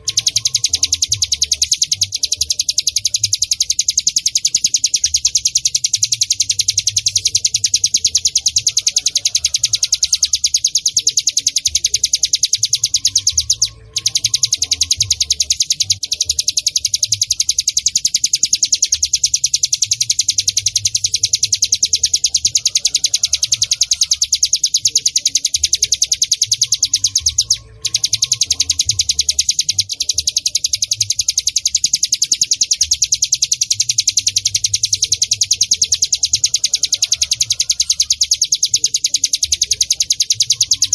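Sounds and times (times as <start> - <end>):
bird high-pitched chipping song: 0.0 - 40.9.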